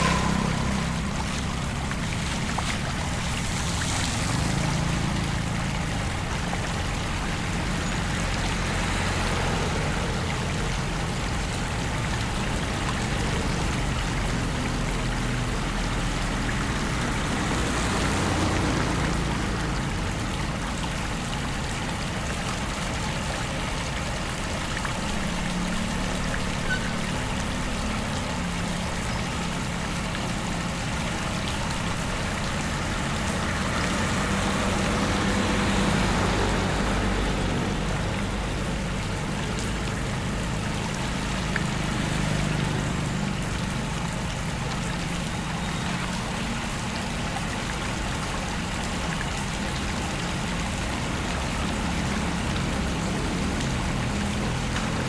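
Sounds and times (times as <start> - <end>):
floodwater rushing: 0.0 - 55.0
low engine-like hum: 0.0 - 55.0.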